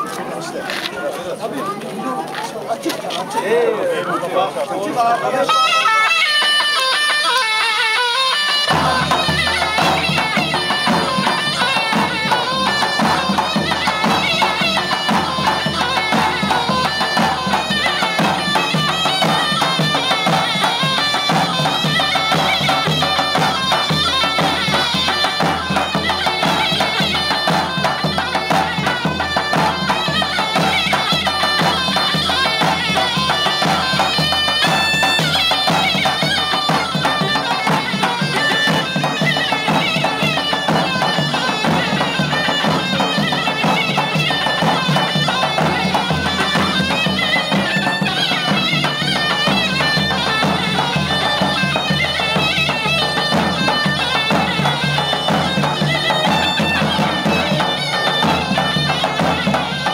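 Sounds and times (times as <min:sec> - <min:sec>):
reedy wind instrument melody: 0:03.8 - 0:59.9.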